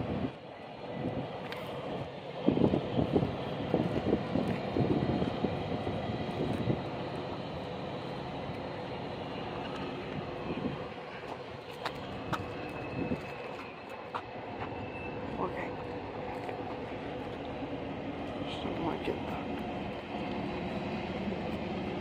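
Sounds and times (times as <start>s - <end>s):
freight train rumble: 0.0s - 22.0s.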